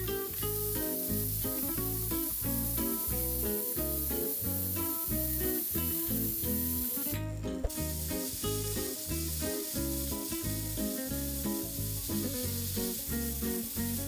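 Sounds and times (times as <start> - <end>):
plucked-string background music: 0.0 - 14.0
pressure cooker hissing steam: 0.0 - 14.0.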